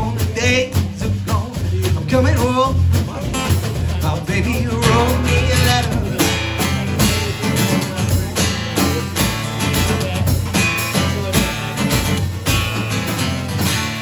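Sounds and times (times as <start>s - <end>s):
acoustic guitar strumming: 0.0s - 14.0s
snare drum beat: 0.0s - 14.0s.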